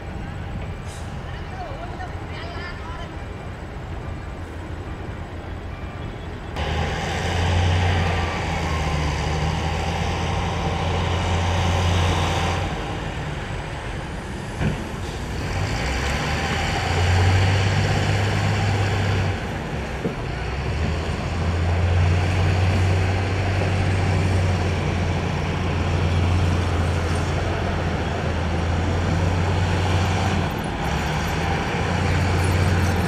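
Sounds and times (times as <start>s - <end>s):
diesel engine working: 3.2s - 33.0s.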